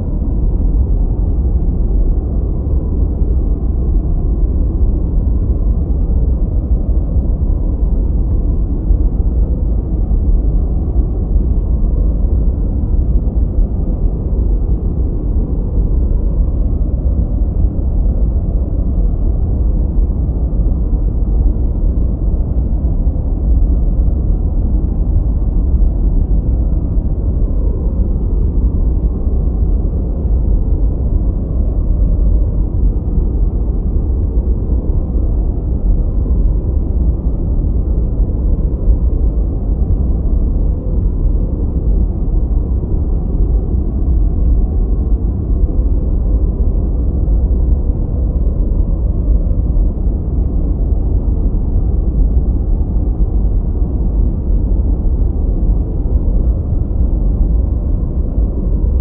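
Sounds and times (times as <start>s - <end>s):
deep muffled rushing noise: 0.0s - 59.0s.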